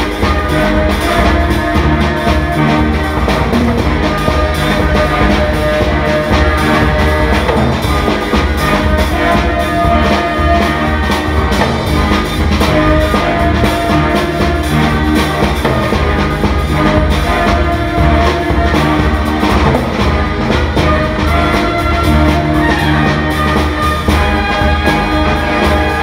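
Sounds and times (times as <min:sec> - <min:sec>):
drums beating: 0:00.0 - 0:26.0.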